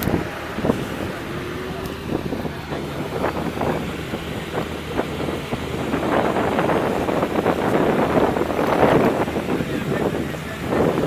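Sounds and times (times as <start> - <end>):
car engine idling: 0.0 - 11.0
wind buffeting microphone: 0.0 - 11.0.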